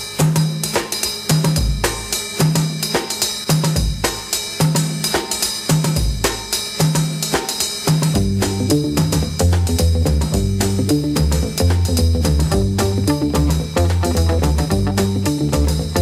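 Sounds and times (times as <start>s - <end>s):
drum kit playing: 0.0s - 16.0s.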